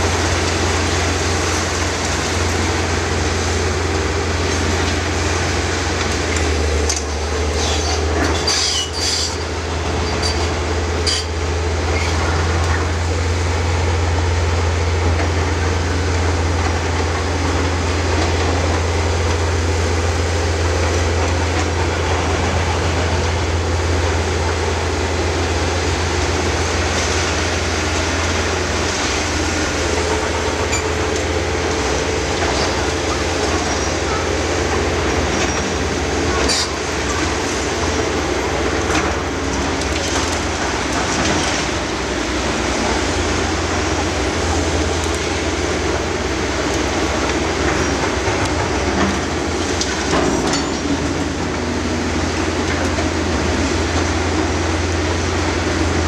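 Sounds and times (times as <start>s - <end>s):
diesel machinery droning: 0.0s - 56.0s.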